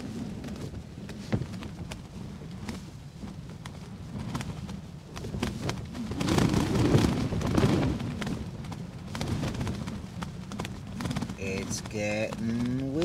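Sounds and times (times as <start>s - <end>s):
wind buffeting a tent: 0.0s - 13.0s.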